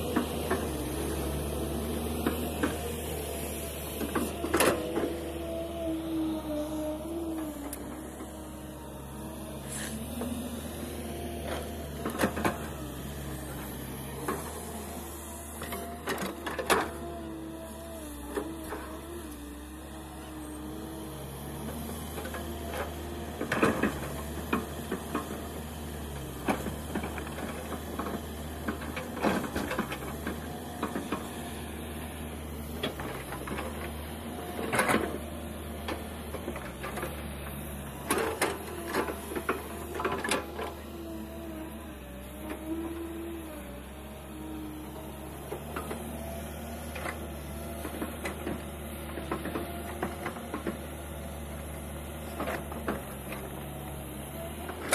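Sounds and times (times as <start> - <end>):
hydraulic whine: 0.0 - 50.7
excavator diesel drone: 0.0 - 54.9.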